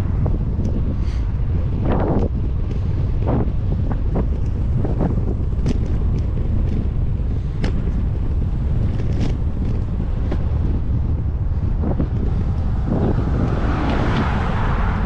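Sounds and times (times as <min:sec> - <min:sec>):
wind buffeting microphone: 0:00.0 - 0:15.0
sharp clicks and rattles: 0:01.8 - 0:15.0.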